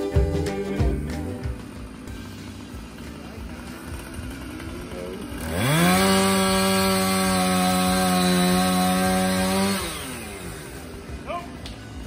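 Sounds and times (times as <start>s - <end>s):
chainsaw revving: 1.0s - 11.3s.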